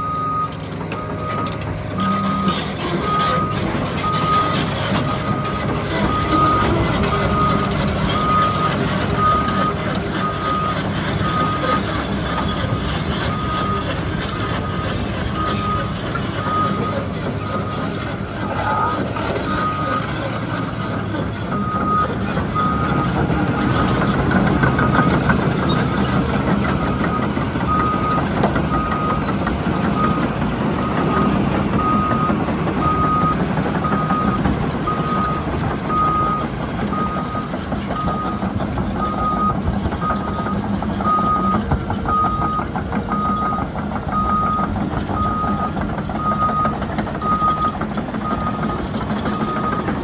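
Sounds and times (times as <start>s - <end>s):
excavator diesel engine running: 0.0s - 50.0s
travel alarm beeping: 0.0s - 50.0s.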